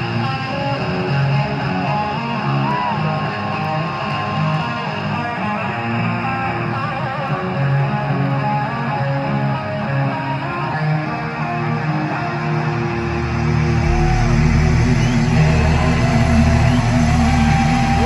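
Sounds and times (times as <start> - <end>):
bass guitar: 0.0 - 18.0
electric guitar lead: 0.0 - 18.0
guitar chords: 0.0 - 18.0.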